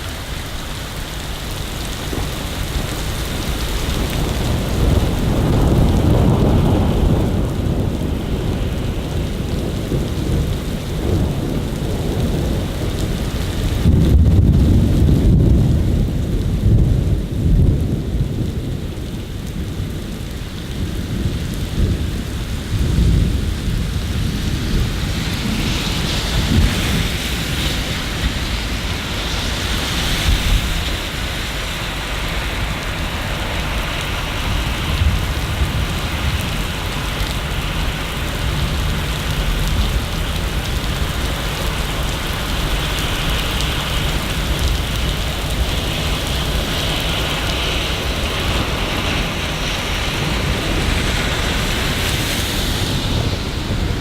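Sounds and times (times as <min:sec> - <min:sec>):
low rolling thunder: 0:00.0 - 0:54.0
rain hissing: 0:00.0 - 0:54.0.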